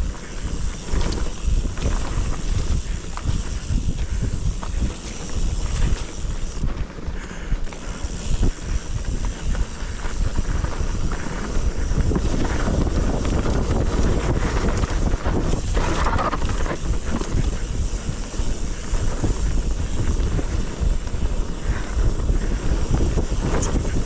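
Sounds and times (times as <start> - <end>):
rumble and rattle over rough ground: 0.0 - 24.0
wind buffeting microphone: 0.0 - 24.0.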